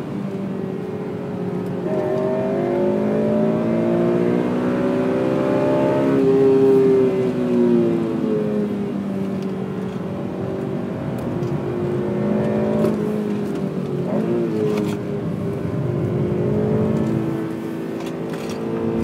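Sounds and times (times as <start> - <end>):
car engine under load: 0.0 - 19.0.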